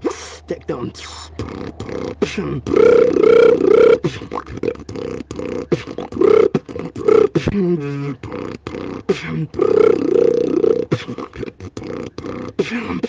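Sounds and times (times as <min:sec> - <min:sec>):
beatboxing mouth clicks: 0:00.0 - 0:13.0
vocal bass tones: 0:00.0 - 0:13.0.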